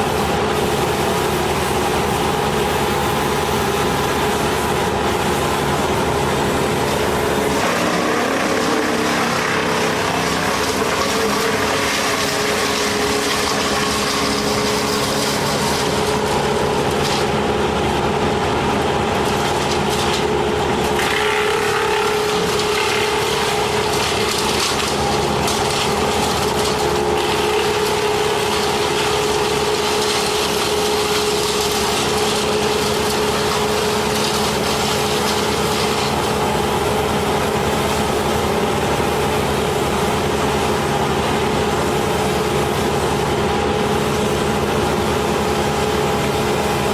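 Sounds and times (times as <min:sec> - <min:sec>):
engine running steadily: 0:00.0 - 0:46.9
woodworking noise: 0:00.0 - 0:46.9.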